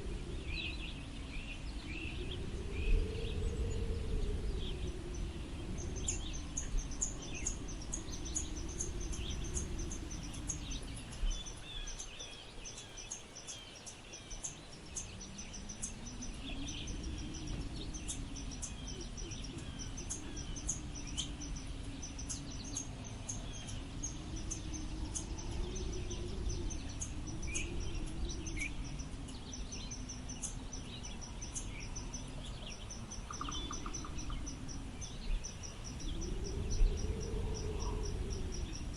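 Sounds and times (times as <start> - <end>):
wind gusting with low moan: 0.0 - 38.9
bird calls: 4.5 - 38.9.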